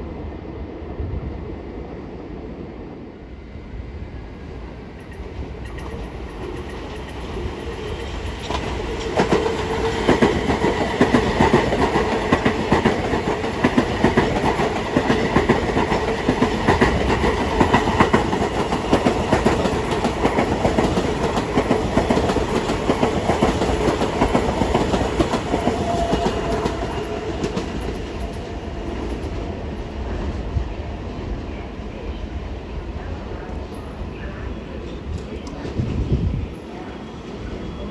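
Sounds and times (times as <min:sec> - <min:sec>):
train passing: 0:00.0 - 0:37.9.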